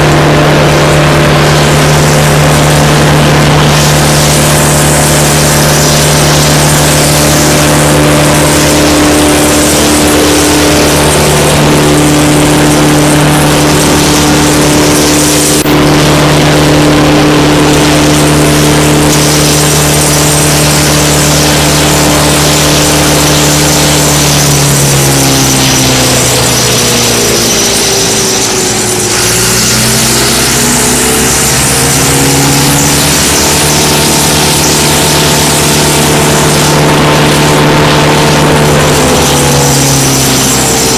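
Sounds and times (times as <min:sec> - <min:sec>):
diesel engine running: 0:00.0 - 0:40.9
wood chipper drum spinning: 0:00.0 - 0:40.9.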